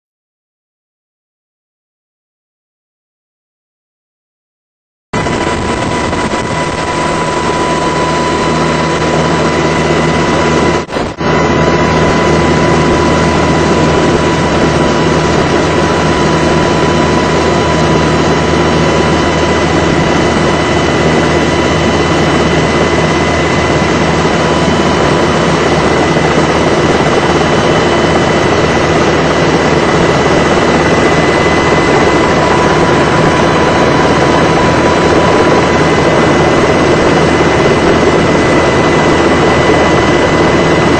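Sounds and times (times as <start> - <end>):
helicopter rotor drone: 5.2 - 40.9
high engine whine: 5.2 - 40.9.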